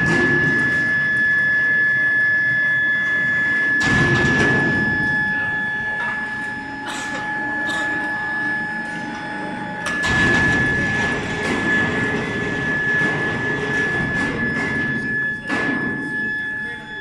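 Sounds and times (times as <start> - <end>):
furnace high-pitched whine: 0.0 - 17.0
lower tone: 0.0 - 17.0.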